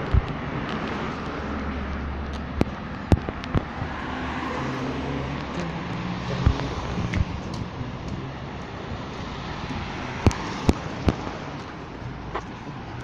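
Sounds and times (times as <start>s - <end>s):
cars passing on street: 0.0s - 13.0s.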